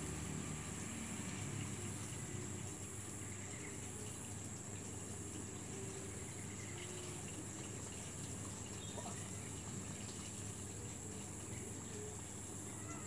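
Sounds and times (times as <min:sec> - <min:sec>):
insects droning: 0:00.0 - 0:13.0
low background hum: 0:00.0 - 0:13.0.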